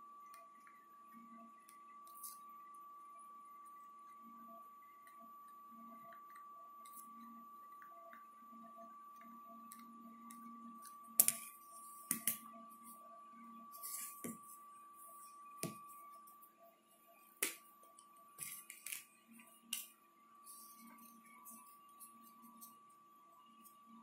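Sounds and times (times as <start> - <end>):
faint high hum: 0.0 - 24.0.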